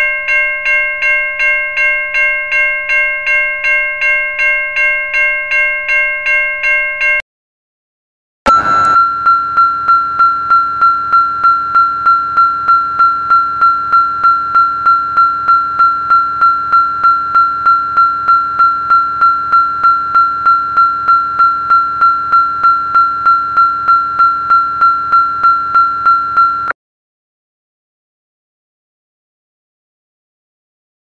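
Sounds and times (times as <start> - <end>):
level crossing bell ringing: 0.0 - 7.2, 8.5 - 26.8.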